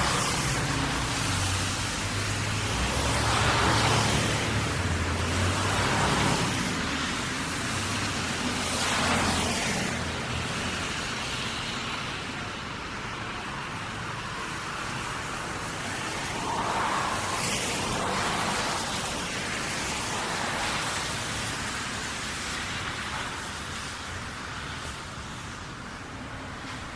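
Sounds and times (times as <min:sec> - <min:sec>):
cars passing on wet street: 0:00.0 - 0:26.9.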